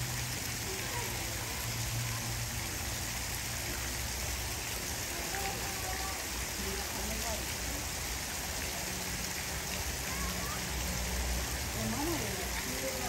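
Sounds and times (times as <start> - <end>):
running water hissing: 0.0 - 13.0
faint distant voices: 0.3 - 13.0.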